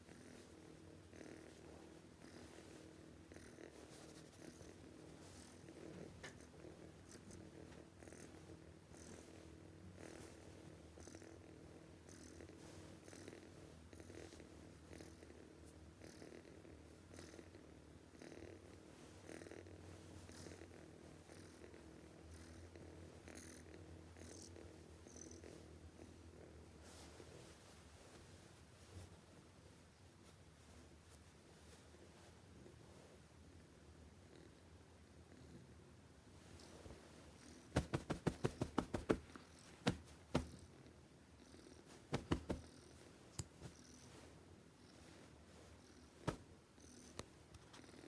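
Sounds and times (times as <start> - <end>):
cat purring: 0.0 - 48.0.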